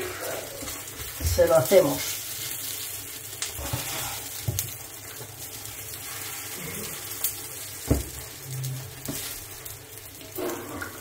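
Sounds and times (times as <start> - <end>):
omelette sizzling in oil: 0.0 - 11.0.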